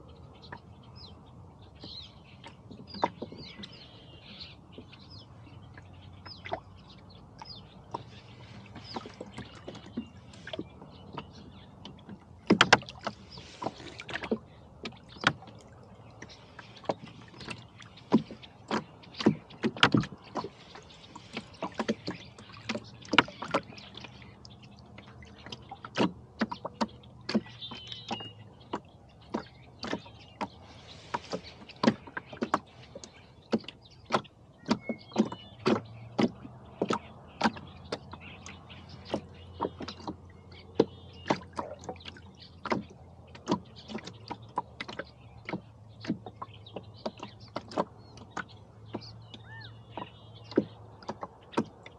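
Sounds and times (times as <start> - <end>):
rowboat knocking and clicking: 0.4 - 51.9.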